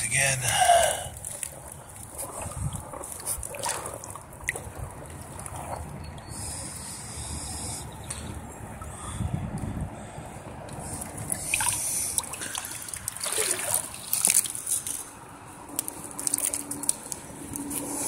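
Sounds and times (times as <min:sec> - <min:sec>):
pond water sloshing and trickling: 0:00.0 - 0:18.0.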